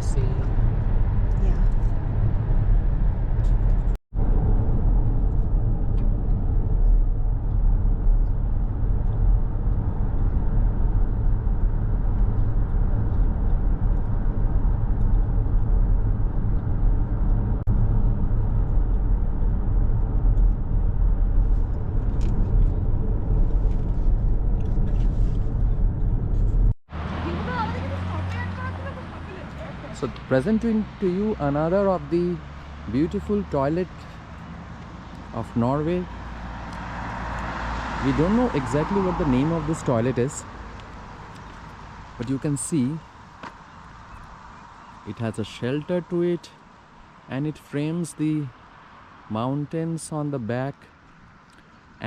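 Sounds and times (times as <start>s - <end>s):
car interior engine and tyre rumble: 0.0s - 52.0s.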